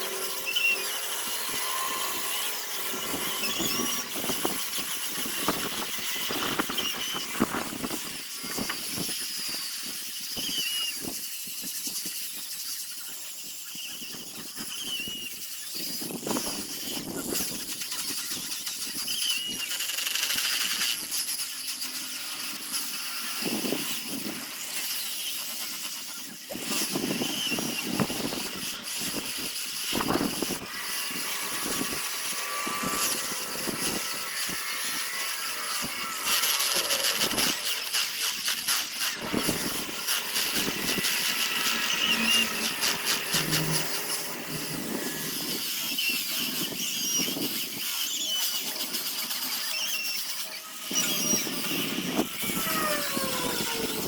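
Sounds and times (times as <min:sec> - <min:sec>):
power sander whining on wood: 0:00.0 - 0:54.0.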